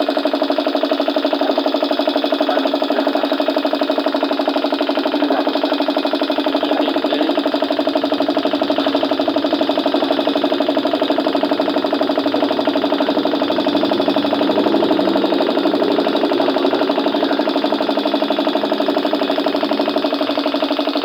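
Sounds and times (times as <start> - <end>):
pulsing machine drone: 0.0 - 21.0.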